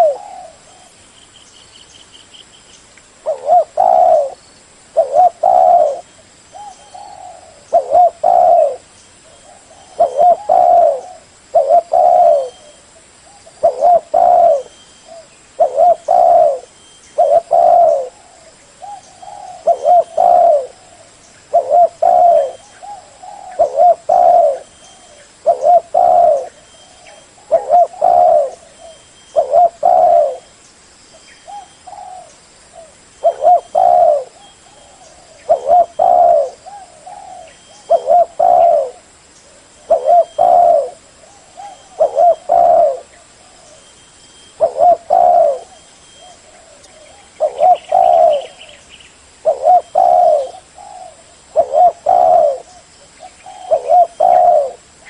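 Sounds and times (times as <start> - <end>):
dove cooing: 0.0 - 1.0, 3.2 - 30.5, 31.4 - 48.8, 49.4 - 55.0.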